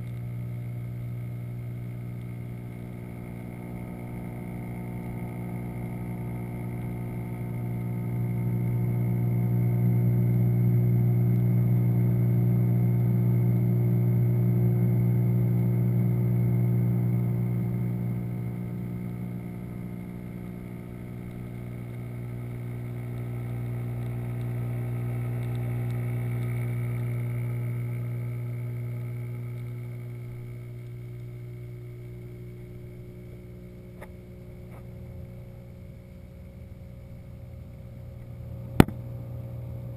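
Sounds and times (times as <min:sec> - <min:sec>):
water pump hum underwater: 0:00.0 - 0:39.9.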